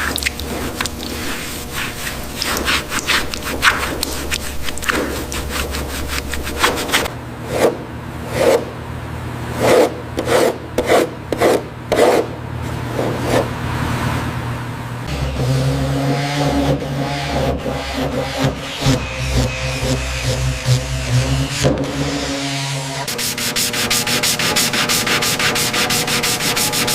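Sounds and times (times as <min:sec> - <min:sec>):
rubbing and scraping strokes: 0:00.0 - 0:08.7, 0:09.6 - 0:12.3, 0:12.9 - 0:13.5, 0:16.0 - 0:26.9.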